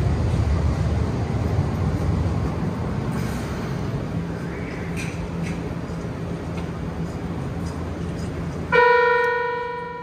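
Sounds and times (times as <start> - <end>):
train cabin hum: 0.0 - 10.0.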